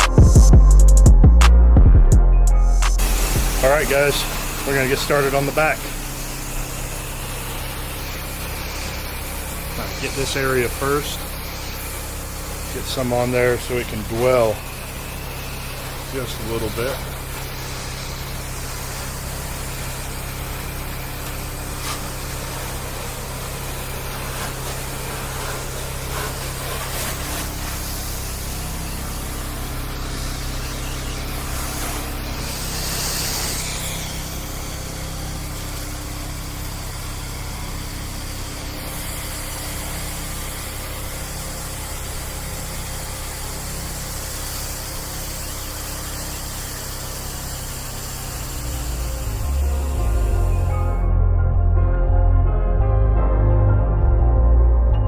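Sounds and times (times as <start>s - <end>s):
pressure washer engine running: 0.0s - 1.5s, 2.8s - 51.1s
spray hissing from nozzle: 2.9s - 51.0s.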